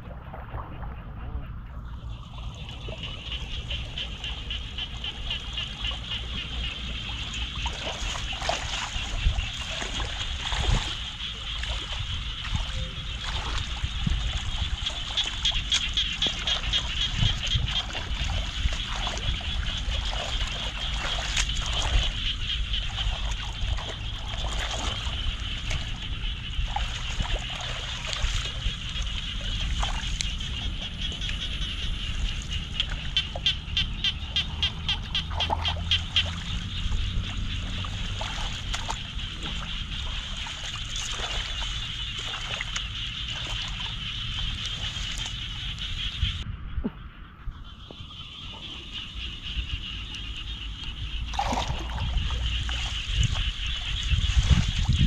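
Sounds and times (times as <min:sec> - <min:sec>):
water trickling and splashing: 0:00.0 - 0:47.0, 0:47.8 - 0:55.0
night insects trilling: 0:02.0 - 0:55.0.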